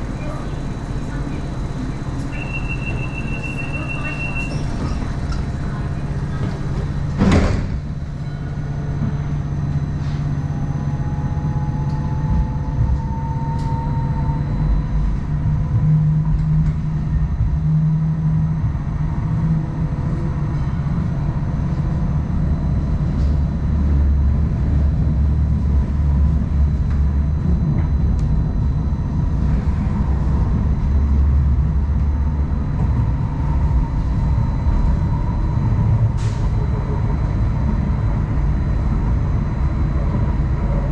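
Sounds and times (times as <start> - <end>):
train wheels rumbling: 0.0 - 40.9.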